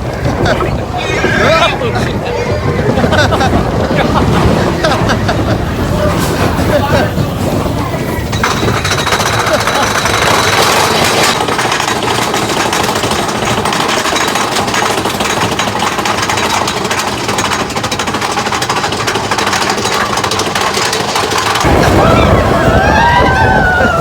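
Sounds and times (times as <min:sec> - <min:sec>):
roller coaster rattling along track: 0:00.0 - 0:24.0.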